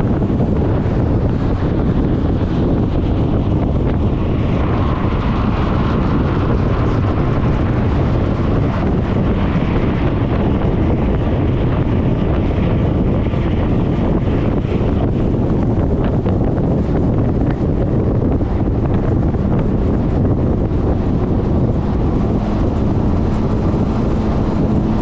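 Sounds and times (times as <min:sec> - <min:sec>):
road and scooter noise: 0:00.0 - 0:25.0
wind rushing over microphone: 0:00.0 - 0:25.0.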